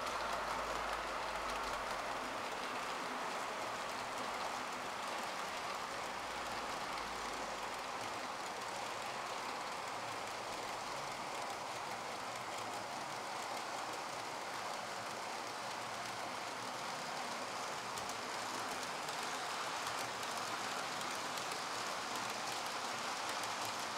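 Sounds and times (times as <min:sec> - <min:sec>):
model train wheels on rail: 0:00.0 - 0:23.9.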